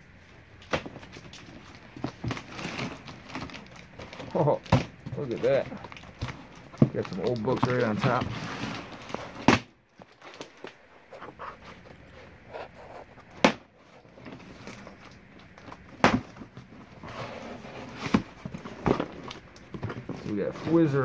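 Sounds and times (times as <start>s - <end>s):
paper and cardboard rustling: 0.6s - 21.0s.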